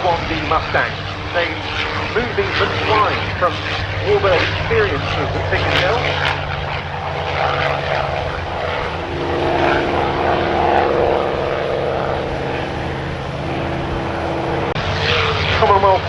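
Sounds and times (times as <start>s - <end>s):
piston aircraft engine drone: 0.0s - 16.0s.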